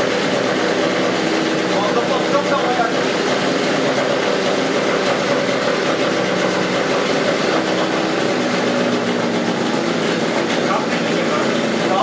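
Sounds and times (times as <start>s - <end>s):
petrol engine running: 0.0s - 12.0s.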